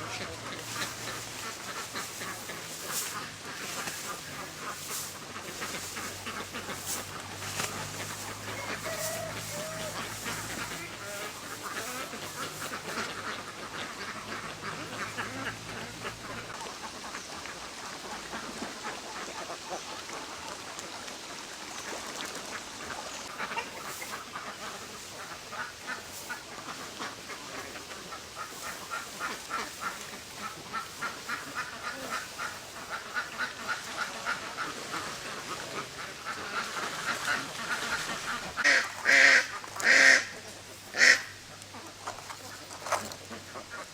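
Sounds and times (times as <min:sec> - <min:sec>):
ducks quacking: 0:00.0 - 0:20.6, 0:22.5 - 0:43.9.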